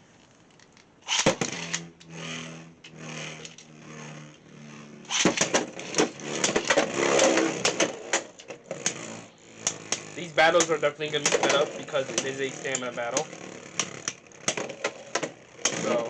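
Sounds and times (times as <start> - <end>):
spinning tops clashing and clattering: 0.6 - 4.3, 5.0 - 16.0
spinning top launcher whir: 1.0 - 16.0.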